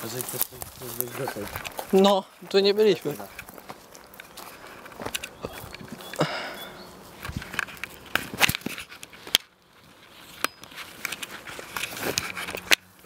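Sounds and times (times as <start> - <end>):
footsteps through undergrowth: 0.0 - 13.0
twigs snapping underfoot: 0.0 - 13.0.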